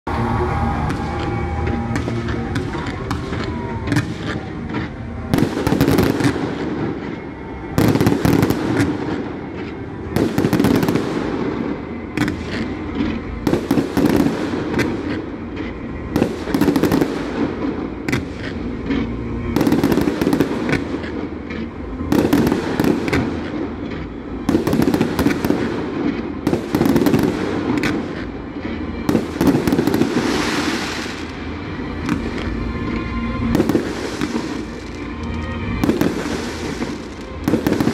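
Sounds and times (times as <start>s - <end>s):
fireworks crackling: 0.1s - 37.9s
fireworks bangs: 0.2s - 37.9s.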